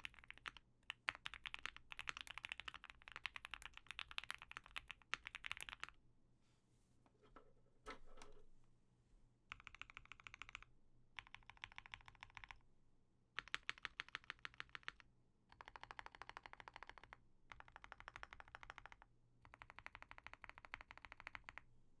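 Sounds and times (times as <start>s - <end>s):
mechanical keyboard typing: 0.0s - 5.9s, 7.3s - 8.4s, 9.5s - 12.6s, 13.4s - 21.6s.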